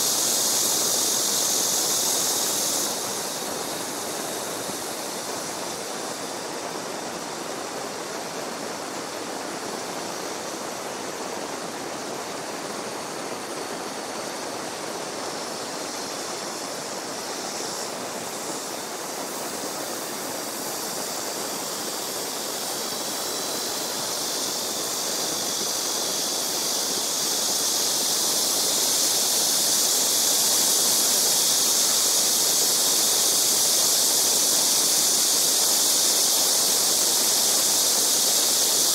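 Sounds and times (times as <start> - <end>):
insect chorus: 0.0 - 38.9
running water rushing: 0.0 - 38.9.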